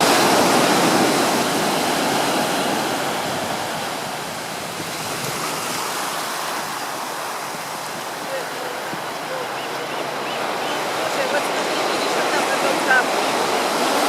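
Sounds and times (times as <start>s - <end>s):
ocean wave rushing: 0.0s - 14.0s.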